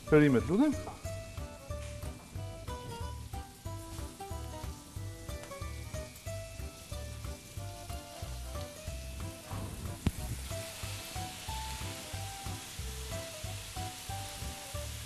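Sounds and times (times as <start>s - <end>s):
background music with a steady beat: 0.0s - 15.0s
vegetables sizzling in a frying pan: 0.0s - 15.0s.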